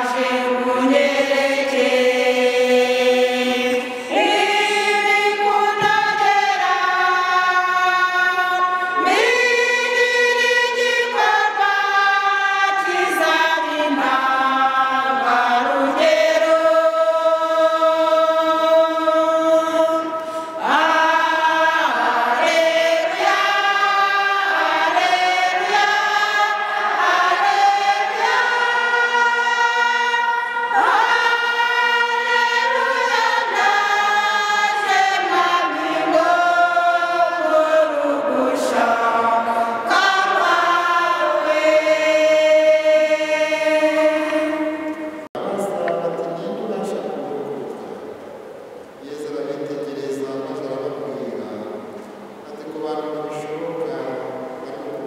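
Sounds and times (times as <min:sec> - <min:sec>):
women's choir singing a hymn: 0:00.0 - 0:55.0.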